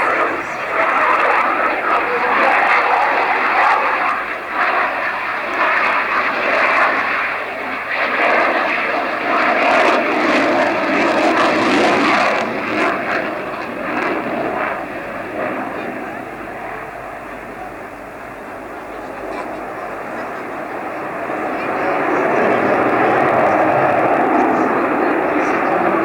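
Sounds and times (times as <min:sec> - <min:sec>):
fighter jet roaring: 0:00.0 - 0:26.0.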